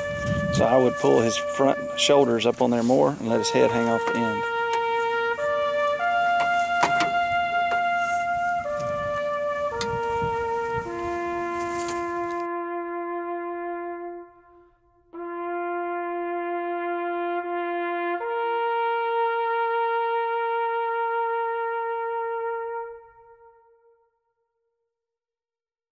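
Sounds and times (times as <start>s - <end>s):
outdoor noise: 0.0s - 23.8s
solo wind instrument melody: 0.0s - 24.3s.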